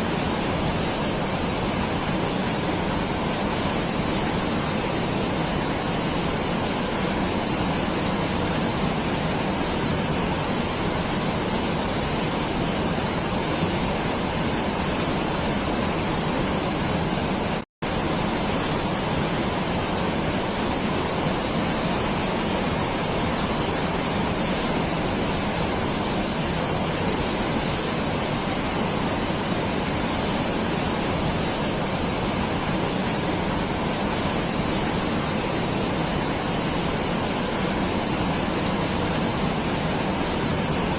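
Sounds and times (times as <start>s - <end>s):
steady rushing noise: 0.0s - 40.9s.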